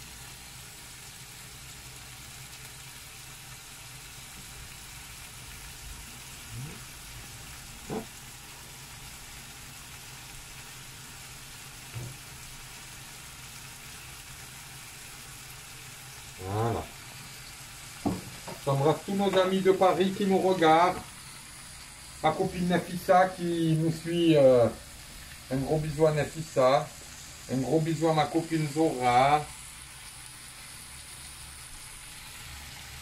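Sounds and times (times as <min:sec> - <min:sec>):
meat sauce sizzling in a pan: 0:00.0 - 0:33.0.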